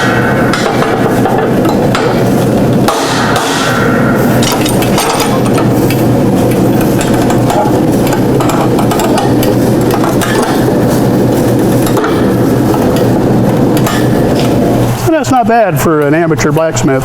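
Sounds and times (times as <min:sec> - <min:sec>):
forge burner rushing: 0:00.0 - 0:15.8.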